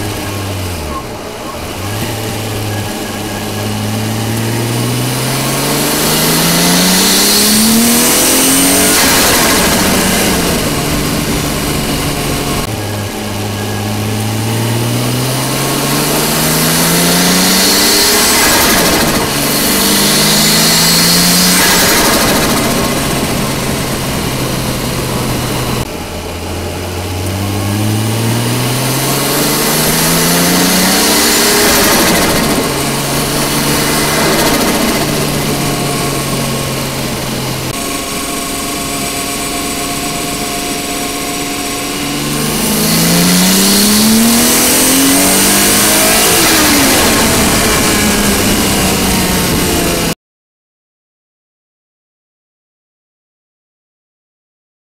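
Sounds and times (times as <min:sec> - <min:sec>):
turbocharged engine accelerating: 0:00.0 - 0:50.2.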